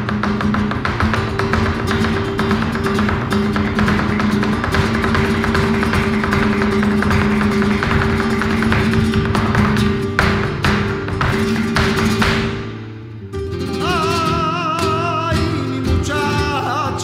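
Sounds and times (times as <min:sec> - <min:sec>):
flamenco acoustic guitar music: 0:00.0 - 0:17.0.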